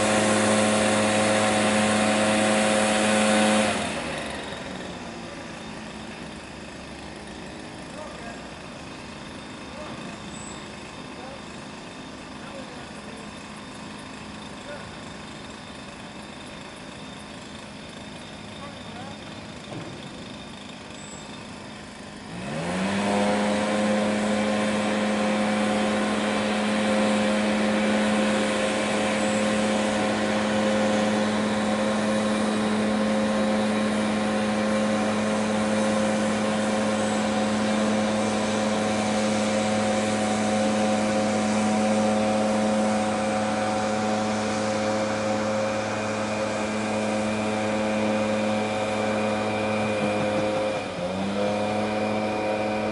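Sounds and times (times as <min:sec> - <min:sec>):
small blower engine revving: 0:00.0 - 0:52.9.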